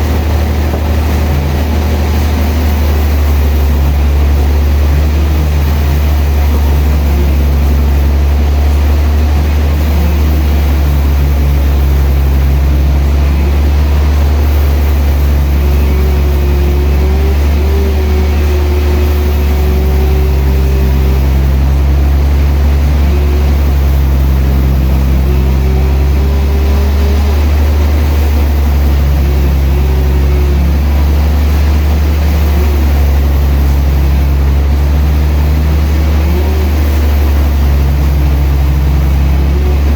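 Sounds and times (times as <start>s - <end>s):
higher machine tone: 0.0s - 39.9s
sawmill machinery drone: 0.0s - 39.9s.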